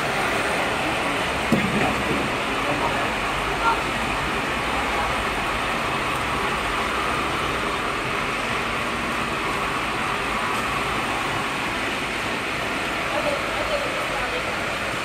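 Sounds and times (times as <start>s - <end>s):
machinery running steadily: 0.0s - 15.0s.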